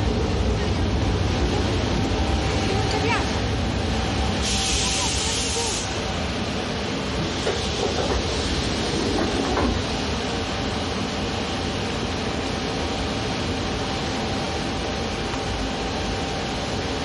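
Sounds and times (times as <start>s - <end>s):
underground train rumble and hiss: 0.0s - 17.0s.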